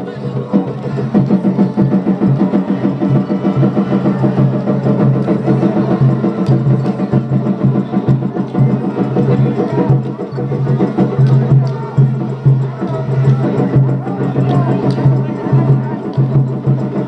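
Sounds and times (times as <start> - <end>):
taiko drums beating: 0.0 - 17.0.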